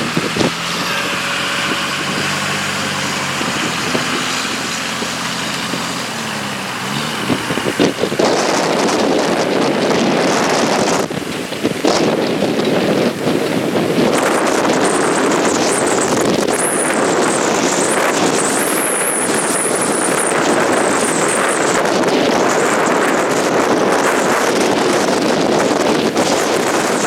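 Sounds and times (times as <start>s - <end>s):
wind rushing on microphone: 0.0s - 27.0s.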